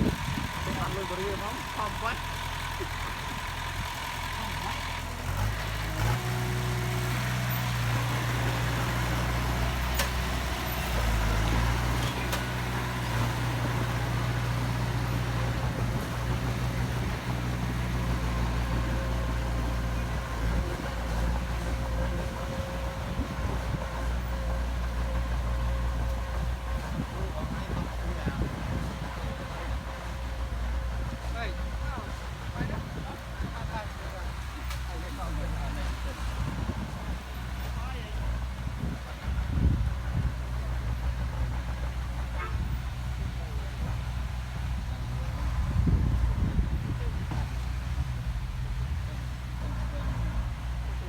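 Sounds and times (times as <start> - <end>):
construction machinery diesel engine: 0.0 - 51.0.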